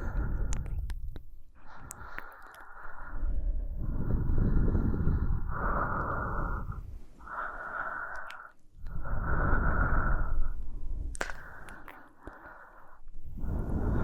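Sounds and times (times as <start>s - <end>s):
woman breathing slowly: 0.0s - 14.0s.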